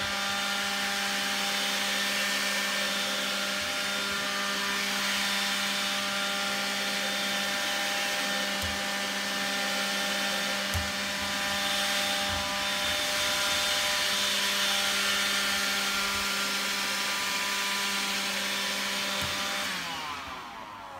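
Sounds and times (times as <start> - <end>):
vacuum cleaner motor whine: 0.0 - 20.9.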